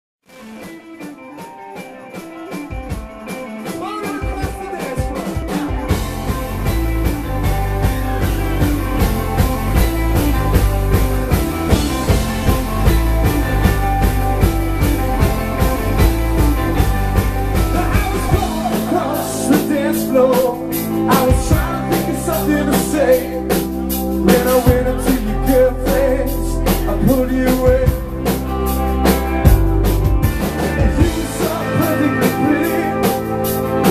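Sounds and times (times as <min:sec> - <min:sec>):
live rock band playing: 0:00.3 - 0:33.9.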